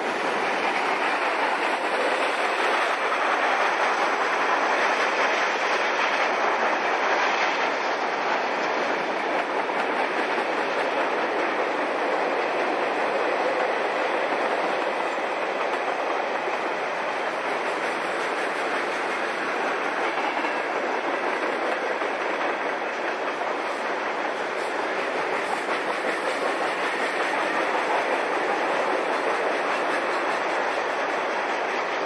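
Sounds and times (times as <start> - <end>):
freight train rolling past: 0.0 - 32.0
steel wheels on rails: 0.0 - 32.0.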